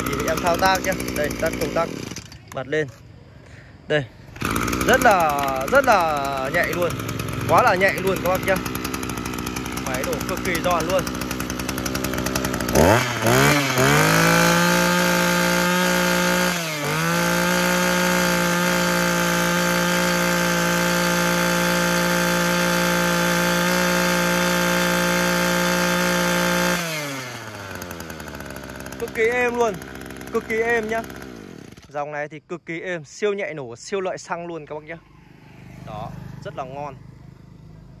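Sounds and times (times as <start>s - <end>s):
brush cutter engine revving: 0.0s - 32.1s, 34.3s - 38.0s.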